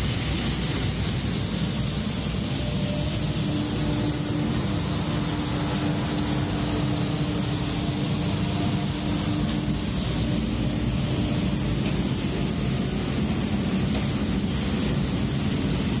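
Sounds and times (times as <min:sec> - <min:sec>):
low steady hum: 0:00.0 - 0:16.0
seed cleaning machine rumbling: 0:00.0 - 0:16.0.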